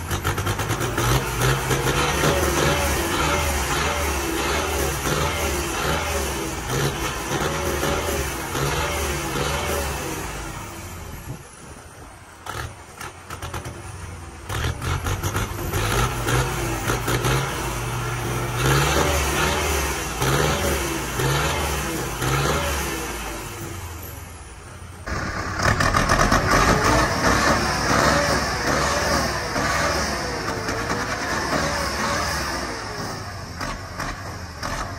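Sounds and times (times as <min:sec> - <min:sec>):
tractor diesel engine revving: 0:00.0 - 0:34.9.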